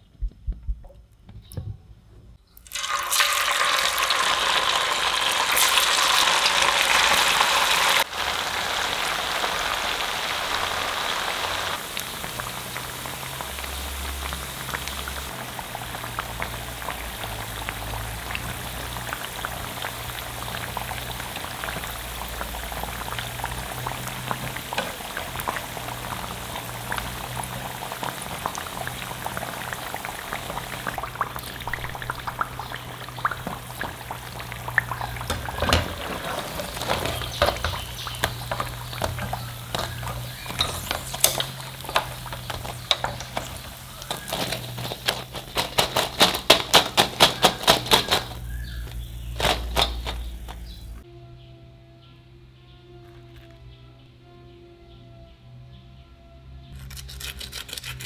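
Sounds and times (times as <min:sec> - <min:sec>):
potatoes sizzling in hot oil: 0:02.6 - 0:51.0.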